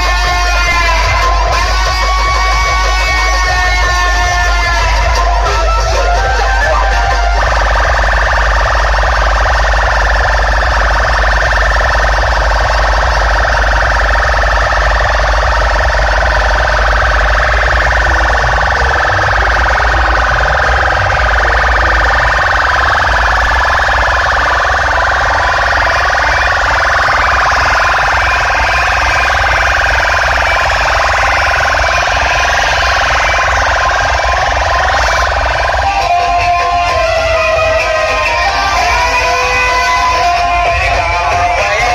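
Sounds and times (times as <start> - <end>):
deep bass: 0.0 - 41.9
siren-like electronic wailing: 0.0 - 41.9.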